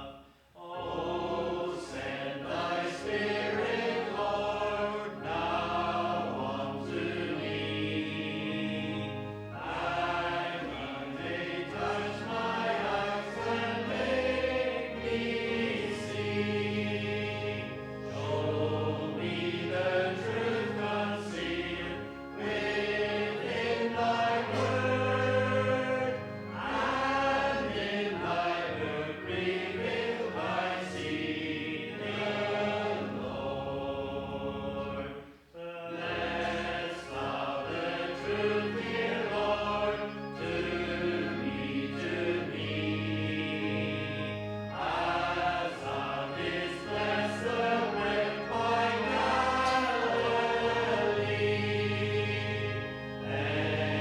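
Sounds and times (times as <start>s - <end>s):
congregation singing a hymn: 0.0s - 54.0s
instrumental accompaniment: 0.9s - 54.0s.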